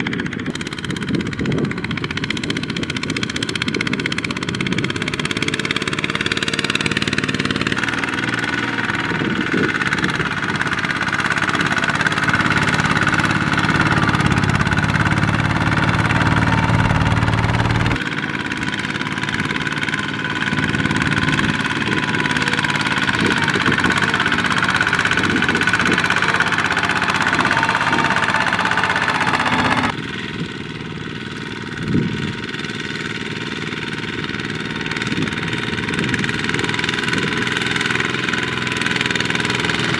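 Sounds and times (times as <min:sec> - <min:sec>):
diesel tractor engines running: 0:00.0 - 0:39.9.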